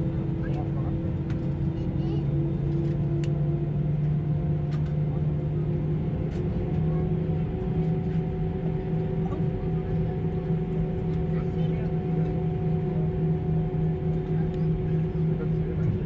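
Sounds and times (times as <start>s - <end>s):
airplane cabin hum: 0.0s - 16.0s.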